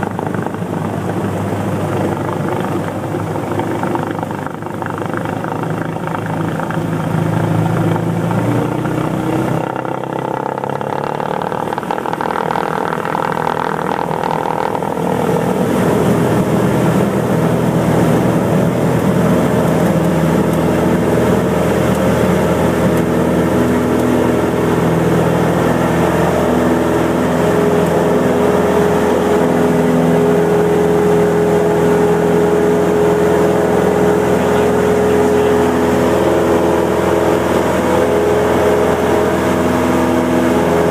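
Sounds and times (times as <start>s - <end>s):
light aircraft engine drone: 0.0s - 40.9s.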